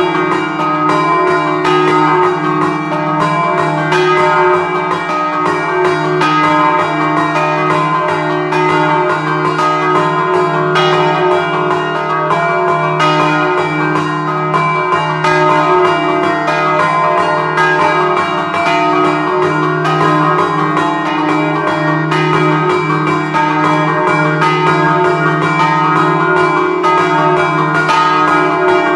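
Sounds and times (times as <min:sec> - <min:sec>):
church bells rung rhythmically: 0:00.0 - 0:28.9.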